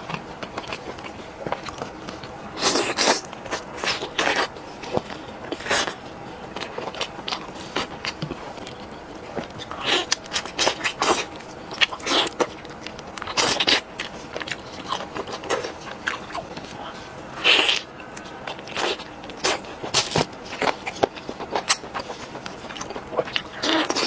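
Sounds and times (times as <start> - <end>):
chewing crispy chicken: 0.0 - 24.0.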